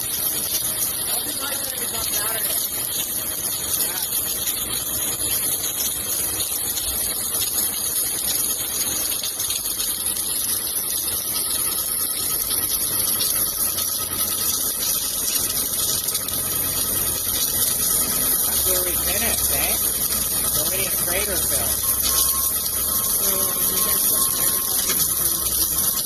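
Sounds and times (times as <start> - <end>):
welding machine hissing: 0.0 - 26.0.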